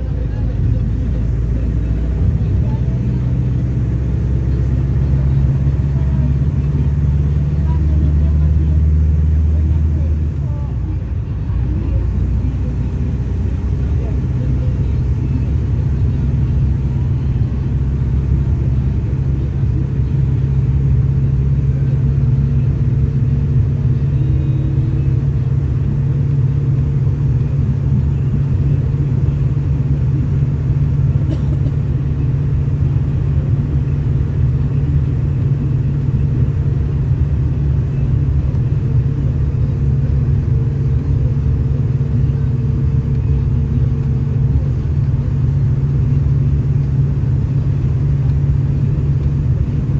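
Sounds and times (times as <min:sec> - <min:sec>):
diesel engine rumble inside bus: 0:00.0 - 0:49.9.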